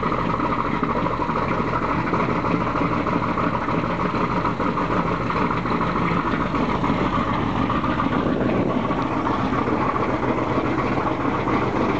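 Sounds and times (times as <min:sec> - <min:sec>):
radial aircraft engine idling: 0:00.0 - 0:11.9.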